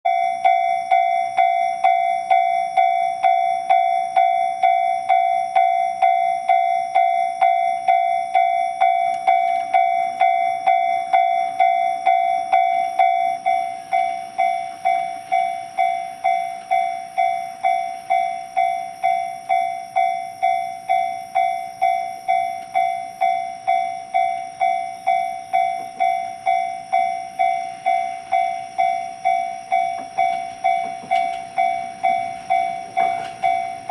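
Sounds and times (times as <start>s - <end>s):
level crossing alarm bell: 0.0s - 33.9s.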